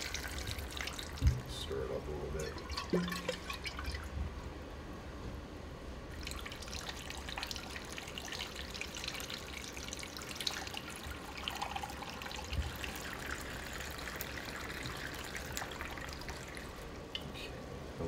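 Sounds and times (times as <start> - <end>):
water trickling into water: 0.0 - 4.3, 6.1 - 17.4.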